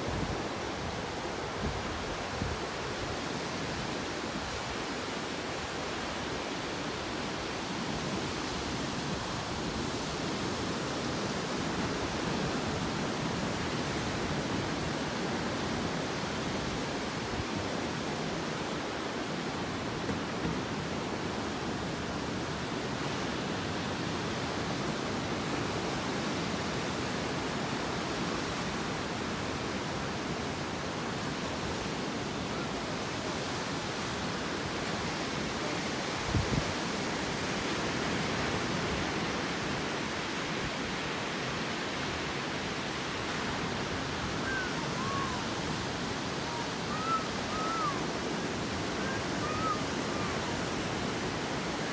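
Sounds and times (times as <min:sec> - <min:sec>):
heavy surf roaring: 0:00.0 - 0:51.9.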